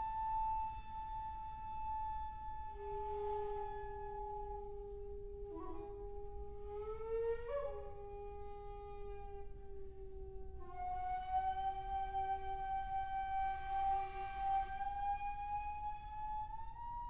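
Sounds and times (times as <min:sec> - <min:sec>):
bamboo flute duet: 0:00.0 - 0:17.0.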